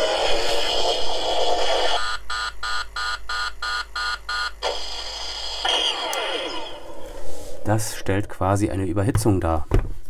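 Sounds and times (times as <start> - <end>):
falling electronic whine: 0.0 - 8.8.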